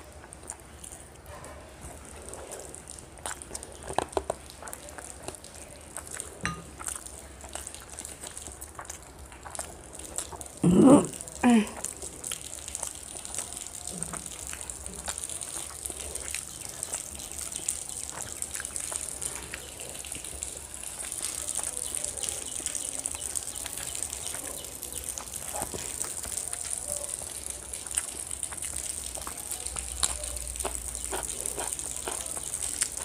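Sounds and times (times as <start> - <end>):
fingers squishing rice: 0.0 - 11.2, 11.8 - 33.0
chewing and mouth smacks: 0.0 - 33.0.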